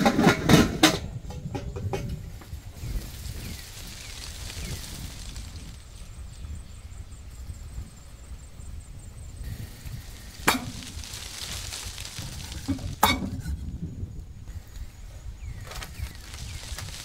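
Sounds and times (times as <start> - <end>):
crackling rustle: 1.3 - 8.1, 9.4 - 13.8, 14.4 - 17.0.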